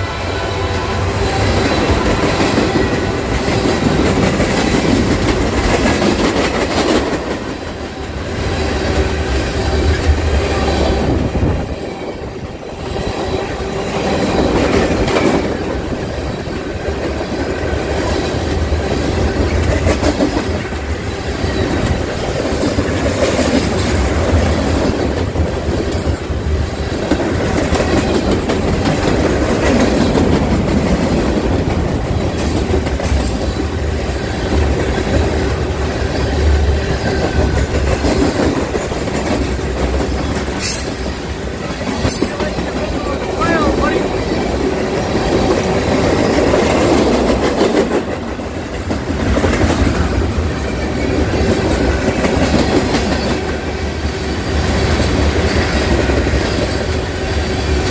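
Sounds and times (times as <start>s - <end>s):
freight train rolling past: 0.0s - 57.9s
steel wheels clattering over rail joints: 0.9s - 53.8s.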